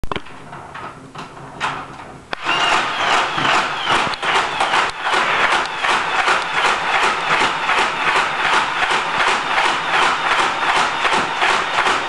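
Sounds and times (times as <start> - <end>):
toy blaster rapid mechanical clatter: 2.3 - 12.0.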